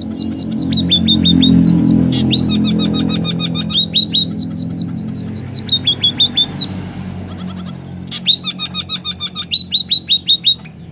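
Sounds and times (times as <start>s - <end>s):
bird chirping: 0.0s - 10.9s.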